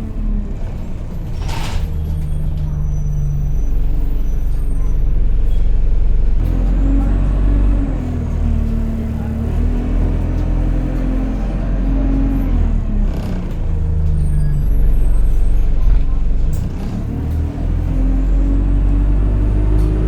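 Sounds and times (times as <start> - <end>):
bus engine whining drone: 0.0 - 20.0.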